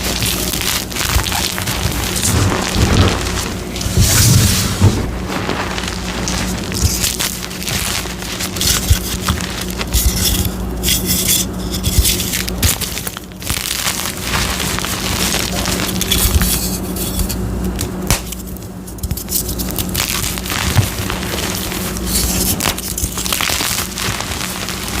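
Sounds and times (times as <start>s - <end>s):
chalk being crushed: 0.0s - 25.0s.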